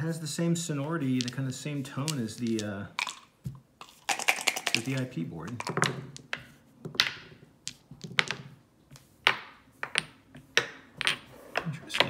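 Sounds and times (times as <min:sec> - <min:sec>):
dice rolling on a board: 0:01.1 - 0:12.0.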